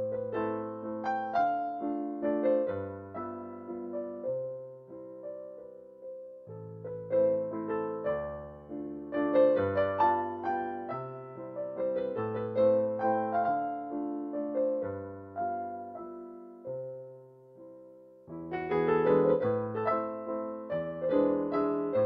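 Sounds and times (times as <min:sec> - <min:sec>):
slow gentle piano music: 0:00.0 - 0:22.0.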